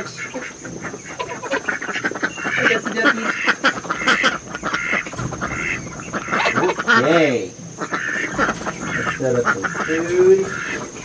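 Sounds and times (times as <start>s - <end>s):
ducks quacking: 0.0s - 11.0s
geese honking: 0.0s - 11.0s.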